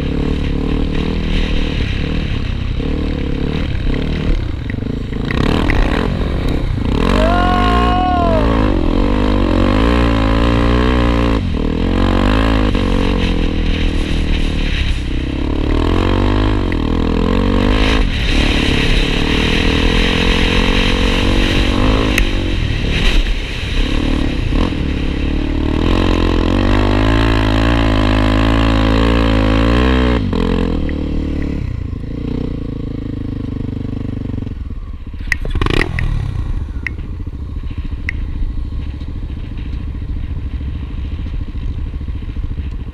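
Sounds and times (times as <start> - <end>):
dirt bike engines revving: 0.0 - 34.3, 35.0 - 42.9.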